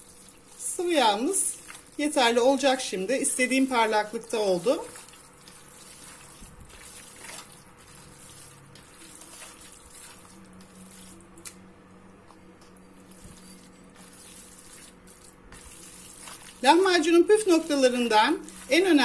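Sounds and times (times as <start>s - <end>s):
hand squishing wet minced meat: 0.0s - 11.6s, 13.1s - 19.0s.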